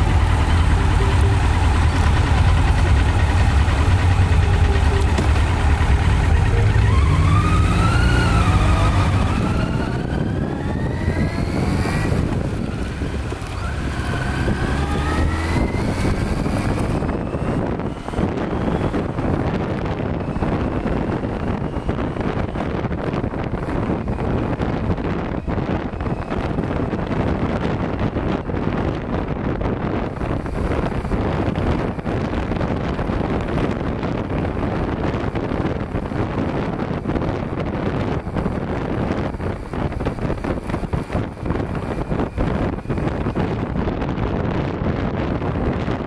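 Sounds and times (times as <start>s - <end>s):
motorcycle engine rumbling and accelerating: 0.0s - 46.0s
wind rush on microphone: 0.0s - 46.0s.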